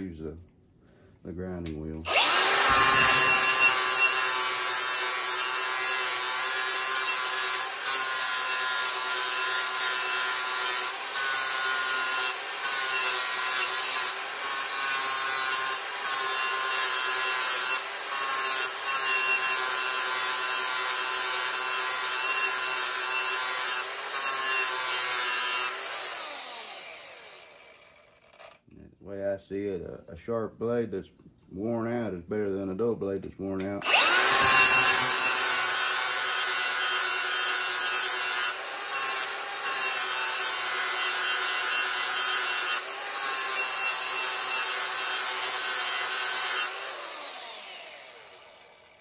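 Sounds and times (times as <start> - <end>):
grinder winding down: 2.1 - 28.6, 33.8 - 49.0
grinder grinding steel blade: 2.1 - 28.7, 33.8 - 49.0.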